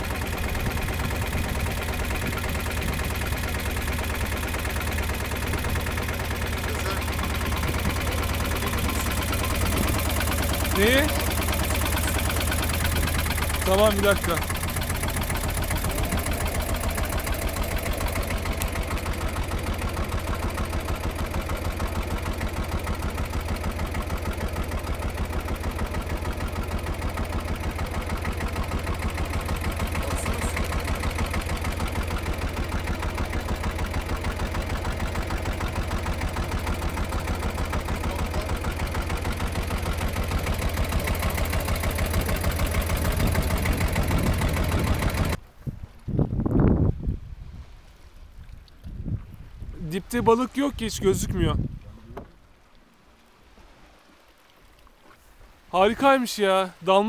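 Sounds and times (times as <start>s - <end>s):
boat engine chugging: 0.0s - 47.2s, 48.6s - 57.0s.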